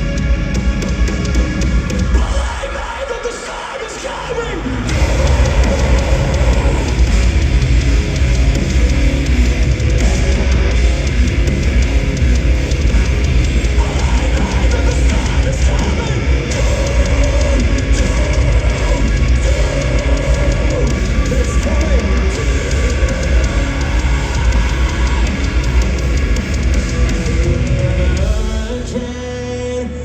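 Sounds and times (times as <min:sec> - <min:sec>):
bass guitar: 0:00.0 - 0:03.0, 0:04.5 - 0:30.0
fast pounding drums: 0:00.0 - 0:29.5
distorted electric guitars: 0:00.0 - 0:30.0.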